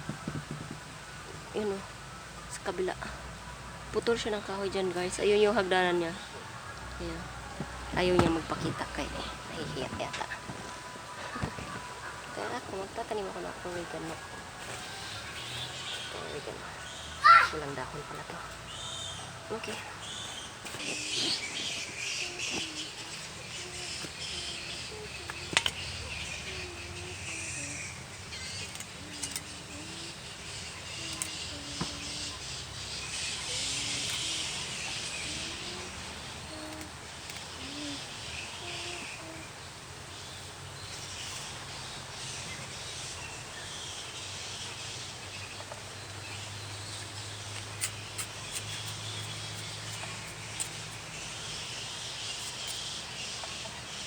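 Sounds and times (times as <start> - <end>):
birds chirping: 0.0 - 54.0
insects: 0.0 - 54.0.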